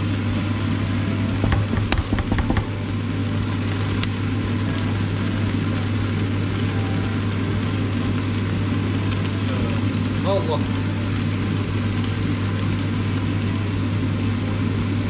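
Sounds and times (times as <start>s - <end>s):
constant low hum: 0.0s - 15.0s
wok cooking rushing sound: 0.0s - 15.0s.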